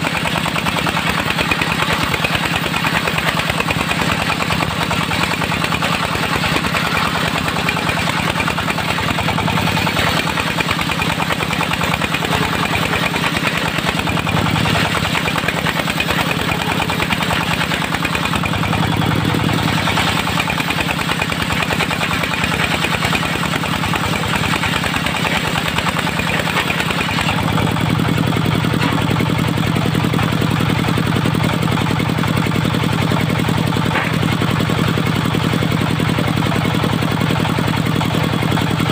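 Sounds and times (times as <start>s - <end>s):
diesel sawmill engine knocking: 0.0s - 38.9s.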